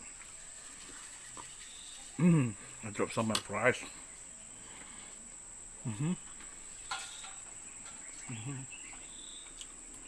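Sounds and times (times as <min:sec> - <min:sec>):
high-pitched insect trill: 0:00.0 - 0:10.0.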